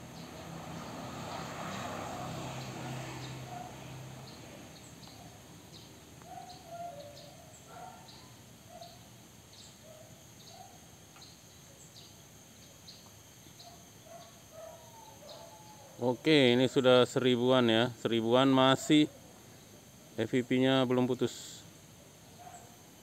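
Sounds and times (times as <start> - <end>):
birds chirping: 0.0 - 19.9, 22.3 - 22.8.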